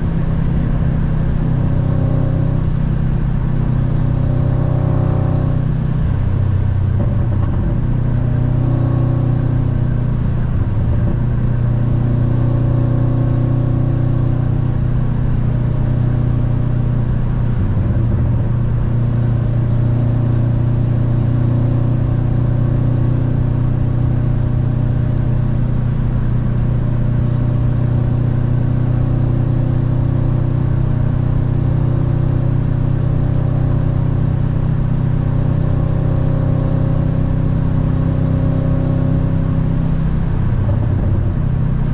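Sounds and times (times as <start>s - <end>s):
car engine droning from inside: 0.0s - 41.9s.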